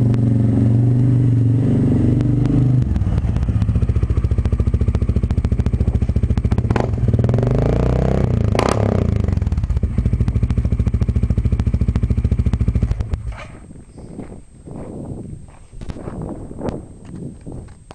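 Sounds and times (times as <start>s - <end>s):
atv engine idling and revving: 0.0s - 14.8s.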